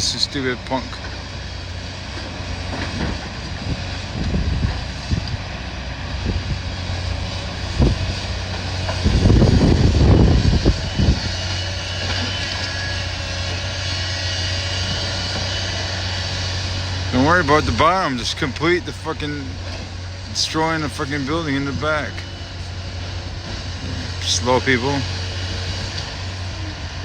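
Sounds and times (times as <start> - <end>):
heavy machinery engine running: 0.0 - 27.0
wind buffeting microphone: 0.0 - 27.0.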